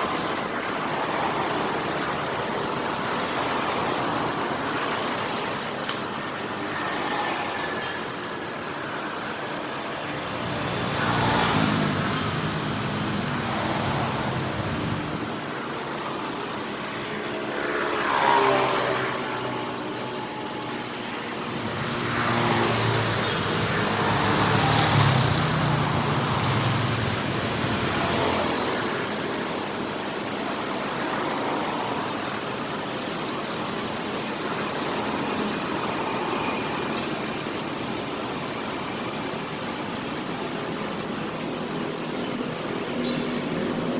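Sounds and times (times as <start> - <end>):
street traffic: 0.0 - 43.9
vehicles passing close: 0.0 - 43.9.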